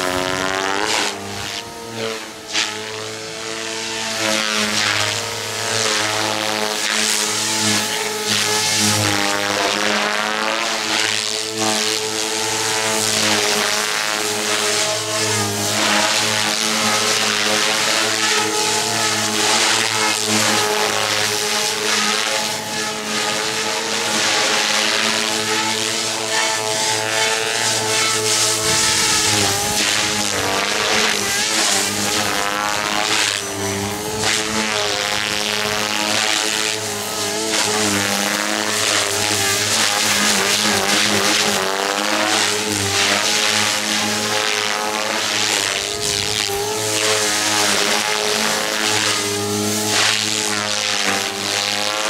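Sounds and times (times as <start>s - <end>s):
rc helicopter motor whine: 0.0s - 52.0s
rotor blade whoosh: 0.0s - 52.0s.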